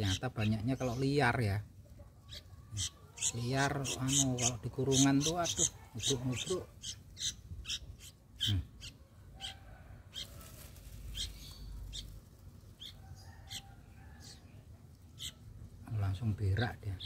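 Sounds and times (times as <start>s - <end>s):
nestlings begging chirps: 0.0s - 1.6s, 2.2s - 17.0s.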